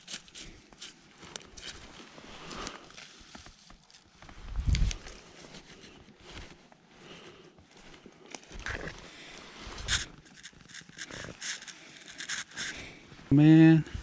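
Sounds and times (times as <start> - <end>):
crunching in dry pine needles: 0.0 - 6.4, 7.7 - 13.0.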